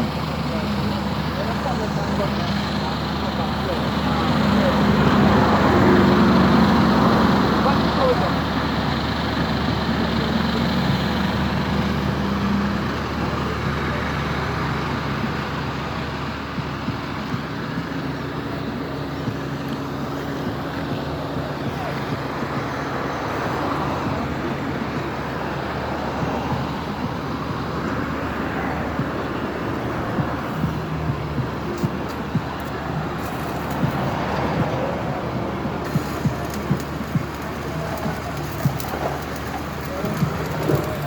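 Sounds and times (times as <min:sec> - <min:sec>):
road traffic noise: 0:00.0 - 0:41.0
vehicle engine humming: 0:00.0 - 0:41.0.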